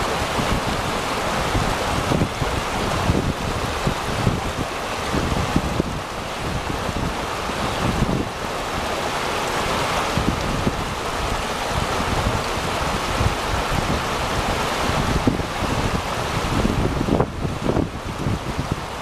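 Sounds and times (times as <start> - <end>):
river rushing: 0.0 - 19.0
wind buffeting microphone: 0.0 - 19.0.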